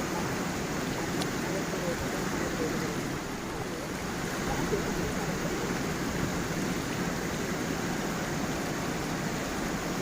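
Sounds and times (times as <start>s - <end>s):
waterfall and stream rushing: 0.0s - 10.0s.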